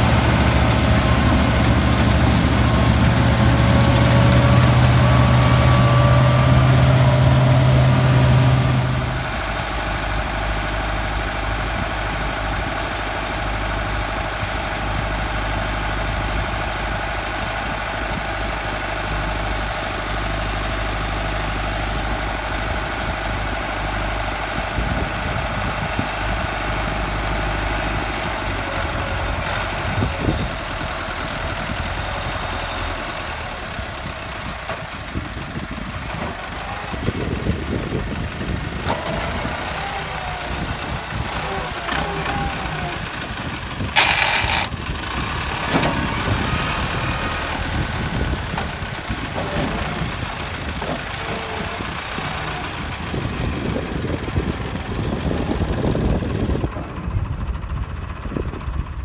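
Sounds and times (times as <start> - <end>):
diesel tractor engine under load: 0.0 - 59.0
straw chopper machinery running: 0.0 - 59.0.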